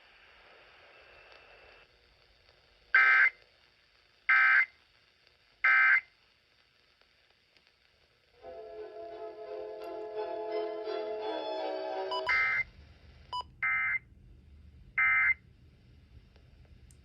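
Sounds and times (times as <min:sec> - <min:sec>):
faint radio hiss: 0:00.0 - 0:17.0.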